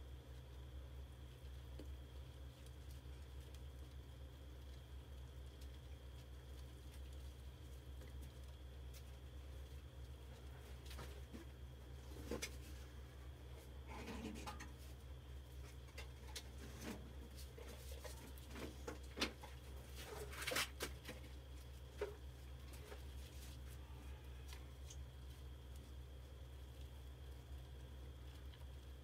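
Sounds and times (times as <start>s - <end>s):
steady low hum: 0.0s - 29.0s
rustling: 0.4s - 29.0s.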